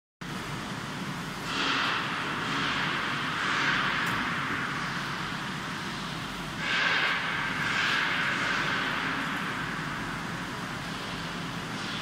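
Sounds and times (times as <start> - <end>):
machine whirring hiss: 0.3 - 12.0.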